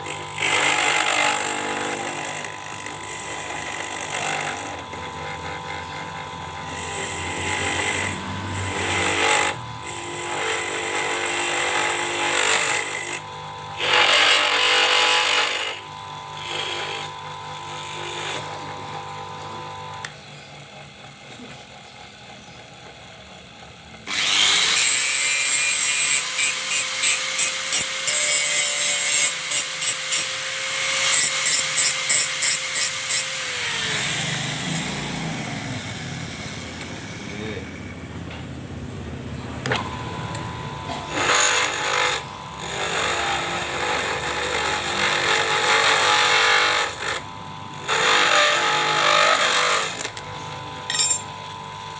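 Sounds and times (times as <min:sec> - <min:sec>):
lathe motor hum: 0:00.0 - 0:51.9.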